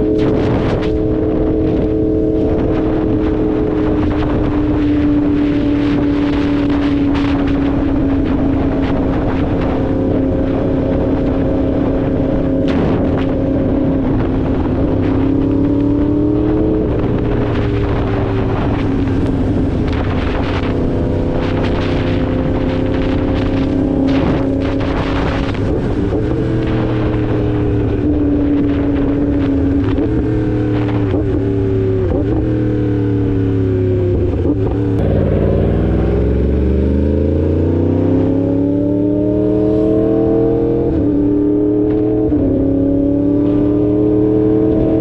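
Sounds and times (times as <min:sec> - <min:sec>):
motorcycle engine: 0:00.0 - 0:45.0
wind on microphone: 0:00.0 - 0:45.0.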